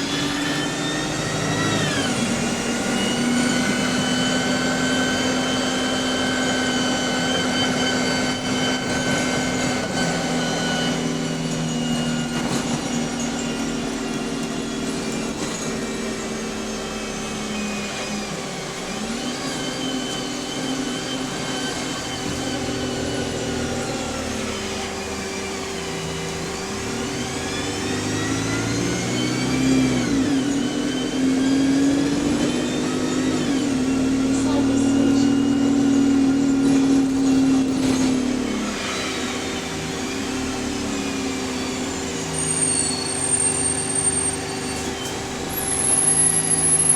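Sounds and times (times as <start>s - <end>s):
bus engine running: 0.0s - 46.9s
gearbox whine: 0.0s - 46.9s.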